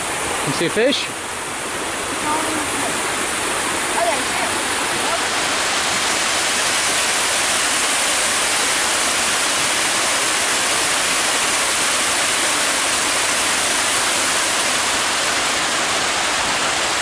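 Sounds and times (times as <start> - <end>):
water cascading down waterfall: 0.0 - 17.0.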